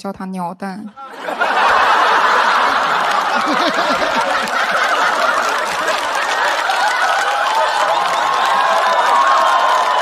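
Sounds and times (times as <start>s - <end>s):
audience laughing: 0.9s - 10.0s
audience applauding: 1.1s - 10.0s.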